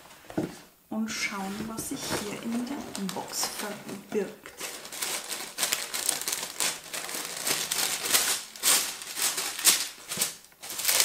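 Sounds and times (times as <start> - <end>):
tissue paper rustling: 1.1 - 11.0.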